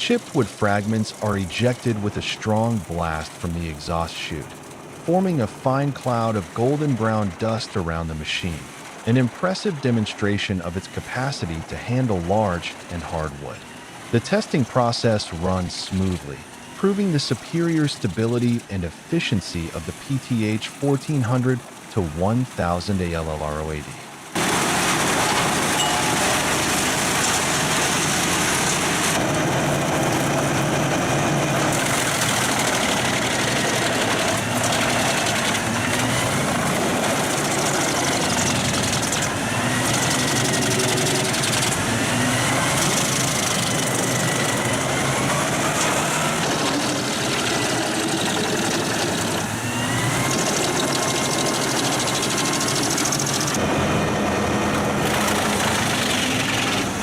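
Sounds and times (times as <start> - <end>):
wood chipper chipping logs: 0.0 - 57.0.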